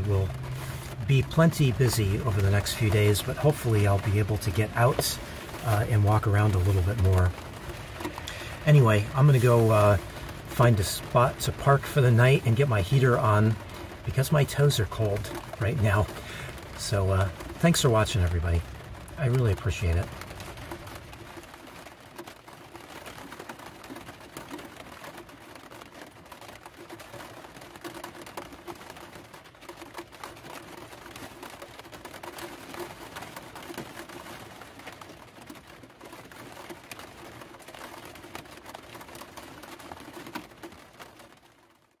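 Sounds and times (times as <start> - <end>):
rain tapping on a vehicle roof: 0.0 - 42.0.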